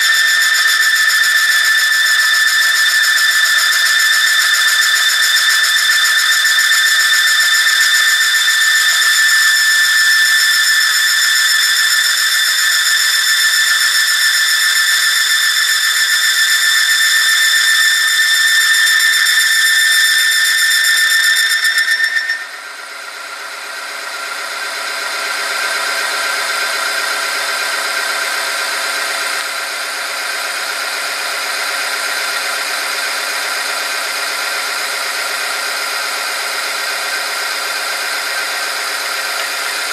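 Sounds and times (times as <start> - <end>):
machine squealing high whistle: 0.0 - 39.9.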